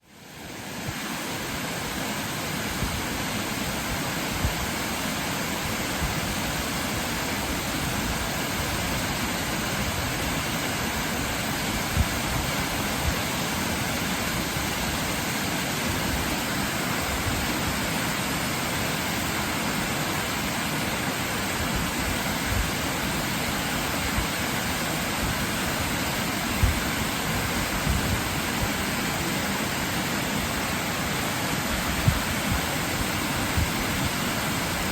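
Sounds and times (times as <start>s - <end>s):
waterfall roaring: 0.0s - 34.9s.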